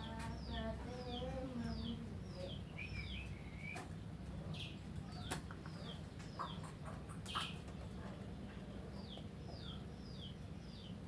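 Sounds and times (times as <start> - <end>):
bird chirping: 0.0 - 7.9, 8.7 - 11.0.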